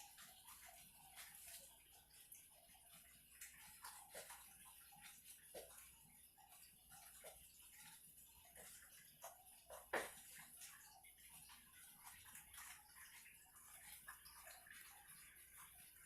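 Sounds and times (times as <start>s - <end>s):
water drips plinking: 0.0s - 16.0s
water trickling: 0.0s - 16.0s.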